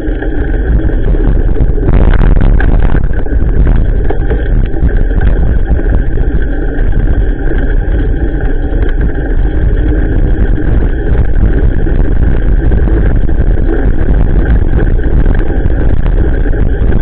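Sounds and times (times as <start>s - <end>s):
wind and tyre rumble: 0.0s - 17.0s.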